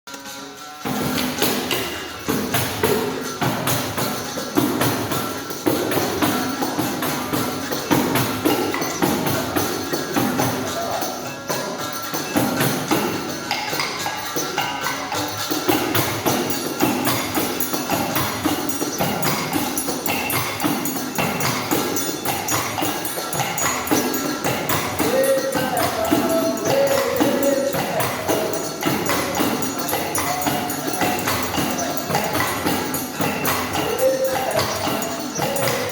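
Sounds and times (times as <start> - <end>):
struck percussion rhythm: 0.1 - 35.9
tambourine jingles: 0.1 - 35.9.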